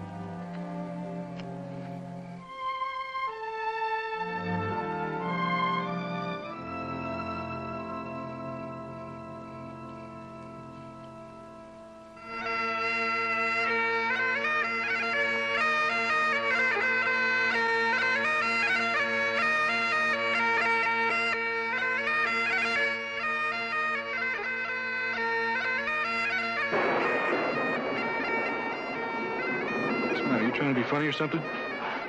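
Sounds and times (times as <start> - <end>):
bagpipes playing a tune: 0.0 - 32.0.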